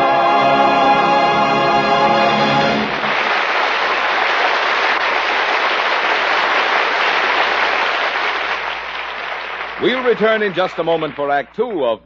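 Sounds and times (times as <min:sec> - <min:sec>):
audience applauding: 0:02.2 - 0:11.9.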